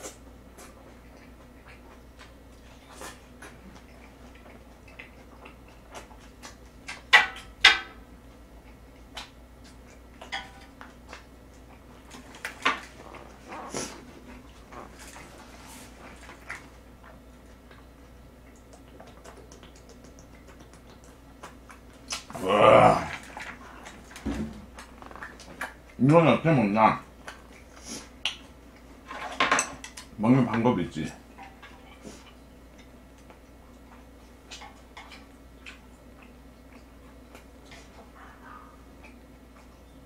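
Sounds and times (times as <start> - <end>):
lip smacks: 0.0 - 7.7, 8.4 - 22.4, 23.1 - 26.0, 27.2 - 28.9, 31.3 - 39.9
chewing: 0.0 - 26.0, 27.0 - 30.1, 31.1 - 40.0.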